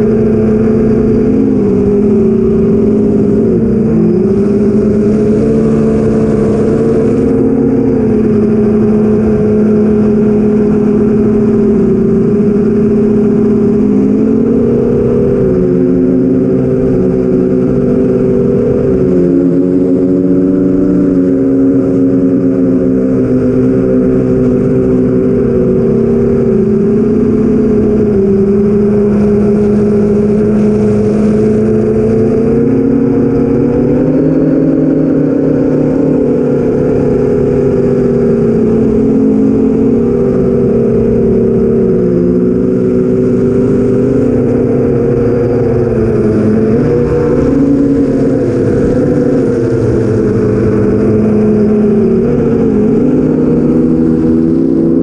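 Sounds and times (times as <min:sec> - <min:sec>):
quadcopter motors droning: 0:00.0 - 0:55.0.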